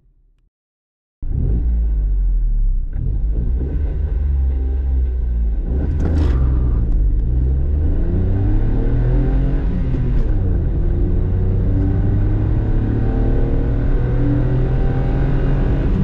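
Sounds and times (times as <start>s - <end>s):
car engine revving: 1.2s - 16.0s.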